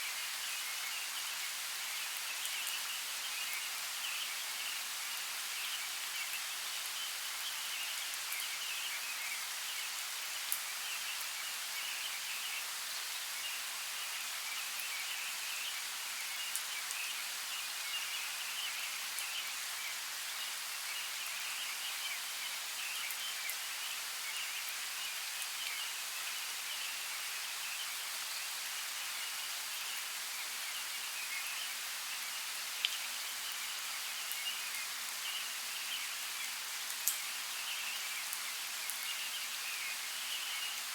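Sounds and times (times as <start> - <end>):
light rain hissing: 0.0 - 40.9.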